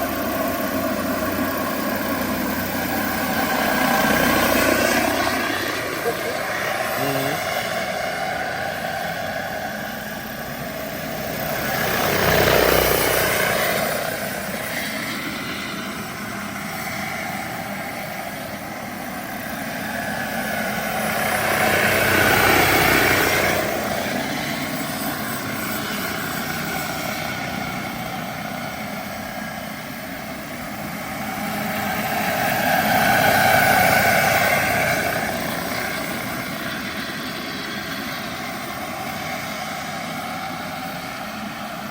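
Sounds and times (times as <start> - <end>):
helicopter rotor: 0.0 - 41.9
model helicopter turbine whine: 0.0 - 41.9.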